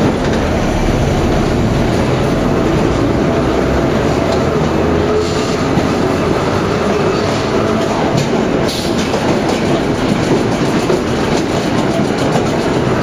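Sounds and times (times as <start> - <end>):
subway train wheels rumbling on rails: 0.0 - 13.0.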